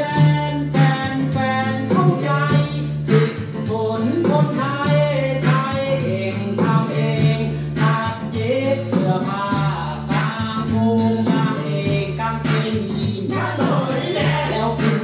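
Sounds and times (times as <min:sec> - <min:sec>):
song over hi-fi speakers: 0:00.0 - 0:15.0.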